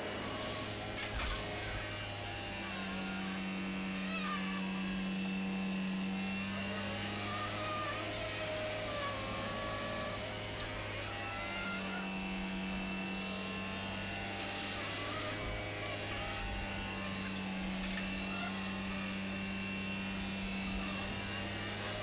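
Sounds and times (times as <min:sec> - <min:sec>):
vacuum hose sucking soil: 0:00.0 - 0:11.4, 0:12.0 - 0:22.0
excavator engine and blower hum: 0:00.0 - 0:22.0.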